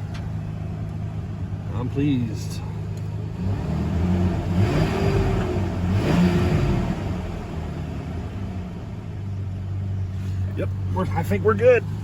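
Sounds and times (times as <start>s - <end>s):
engine revving and idling: 0.0s - 12.0s.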